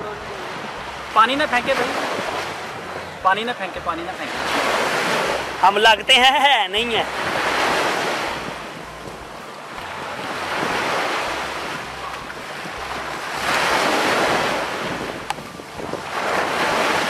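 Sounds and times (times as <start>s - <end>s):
wind rumbling on microphone: 0.0s - 5.8s, 6.8s - 17.0s
small waves breaking in surf: 0.0s - 17.0s.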